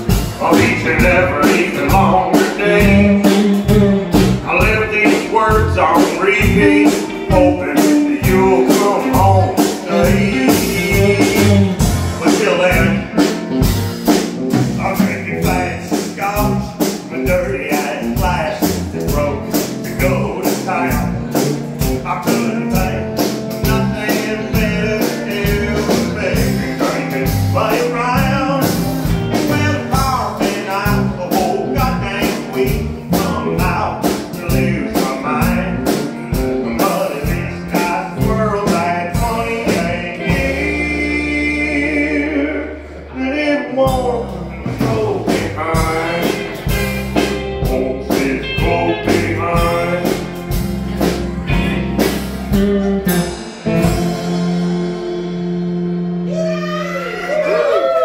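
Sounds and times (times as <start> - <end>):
live country band playing: 0.0 - 58.0.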